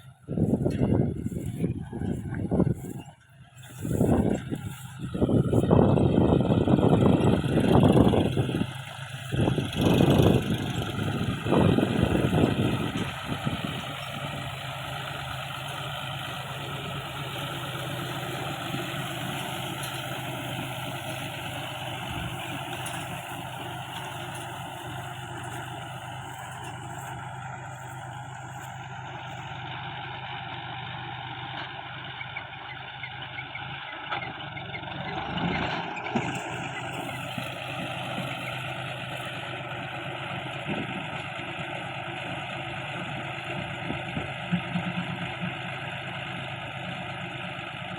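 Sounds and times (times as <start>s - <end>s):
baler machinery noise: 0.0s - 47.9s
tractor diesel engine running: 0.0s - 47.9s.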